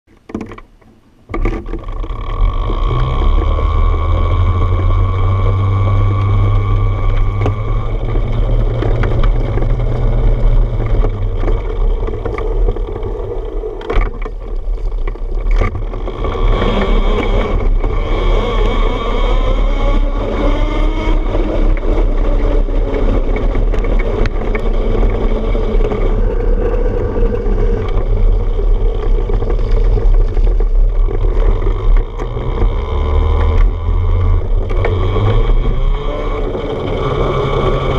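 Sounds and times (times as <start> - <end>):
wheels rolling on wooden boardwalk: 0.1 - 37.9
wheels rolling on gravel: 1.4 - 37.9
electric motor whine: 1.8 - 14.2, 14.8 - 37.9
heavy low rumble: 1.8 - 37.9.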